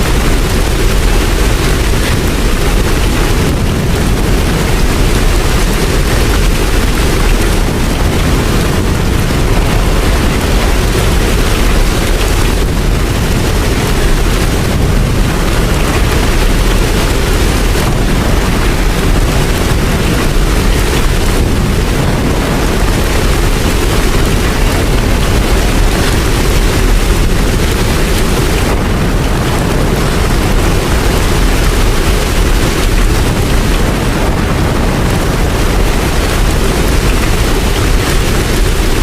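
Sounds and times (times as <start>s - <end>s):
heavy rain with low rumble: 0.0s - 39.0s.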